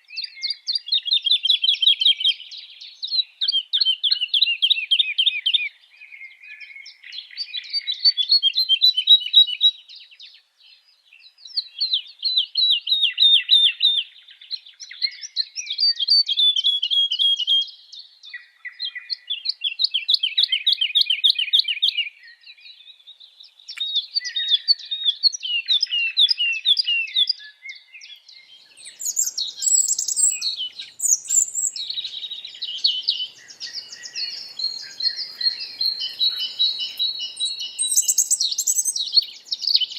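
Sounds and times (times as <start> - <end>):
small birds chirping trills: 0.0 - 39.9.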